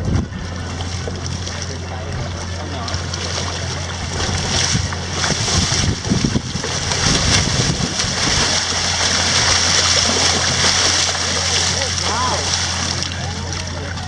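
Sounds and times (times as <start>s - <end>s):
water splashing and churning: 0.0s - 14.0s.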